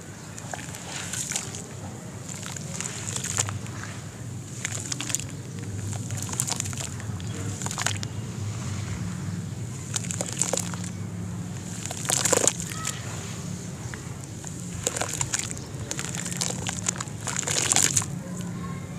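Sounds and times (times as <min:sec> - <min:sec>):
hands squishing through wet slurry: 0:00.0 - 0:18.6
steady low hum: 0:00.0 - 0:18.9.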